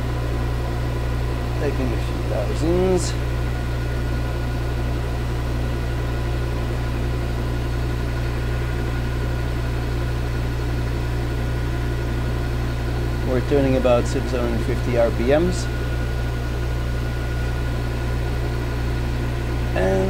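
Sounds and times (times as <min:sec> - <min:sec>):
metal lathe motor humming: 0:00.0 - 0:20.0.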